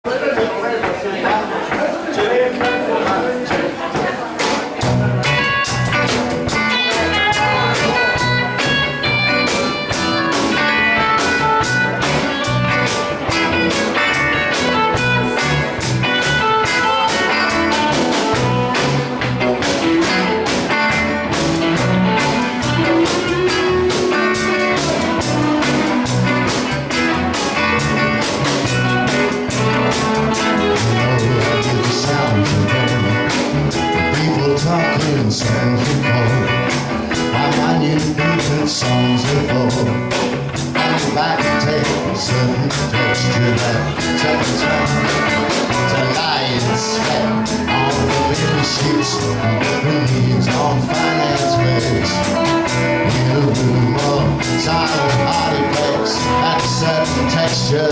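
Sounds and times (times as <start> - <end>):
guitar: 0.0 - 57.9
drum kit beat: 0.1 - 57.9.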